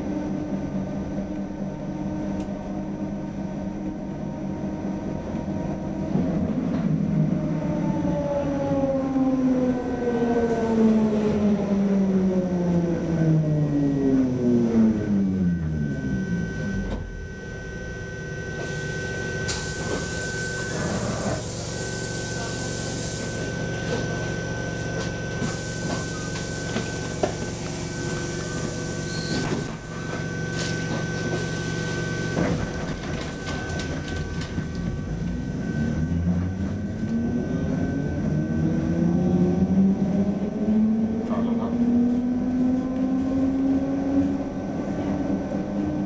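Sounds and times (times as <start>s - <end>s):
tram electric hum and whine: 0.0s - 46.0s.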